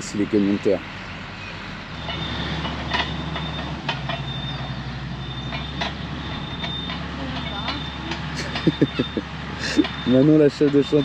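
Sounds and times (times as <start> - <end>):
diesel engine running: 0.0 - 11.0
clanks and knocks: 2.0 - 11.0.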